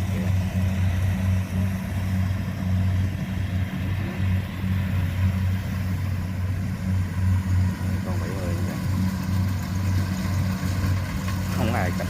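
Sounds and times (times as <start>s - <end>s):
combine harvester engine hum: 0.0s - 12.0s.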